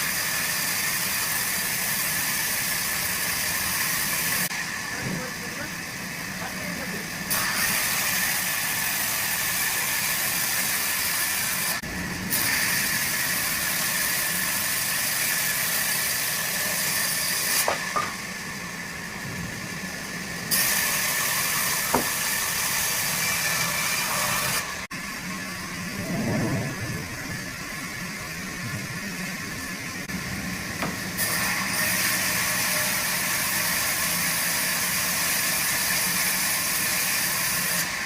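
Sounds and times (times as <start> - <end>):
steady machine whine: 0.0 - 35.0
sawmill machinery hissing: 0.0 - 38.0.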